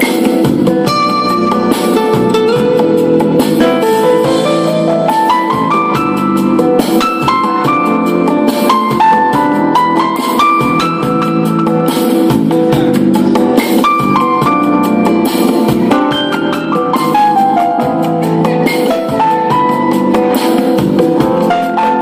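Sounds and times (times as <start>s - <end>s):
keyboard melody: 0.0s - 22.0s
steady drum beat: 0.0s - 22.0s.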